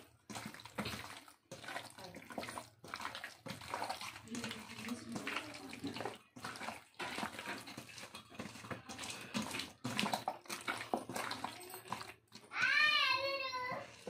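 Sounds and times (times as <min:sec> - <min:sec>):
wet squelching of kneaded meat: 0:00.0 - 0:14.0.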